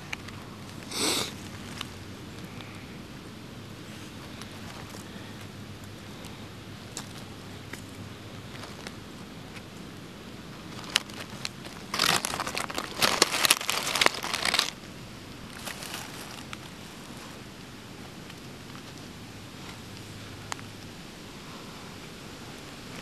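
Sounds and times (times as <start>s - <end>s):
dry leaves crackling and crunching: 3.8s - 23.0s.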